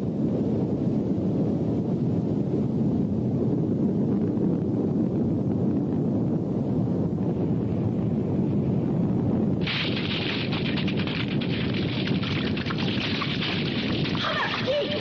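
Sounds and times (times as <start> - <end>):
deep wave rumble: 0.0 - 15.0.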